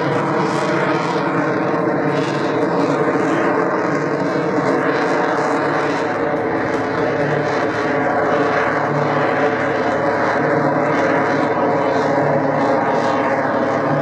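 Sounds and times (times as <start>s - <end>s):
propeller plane engine: 0.0s - 14.0s.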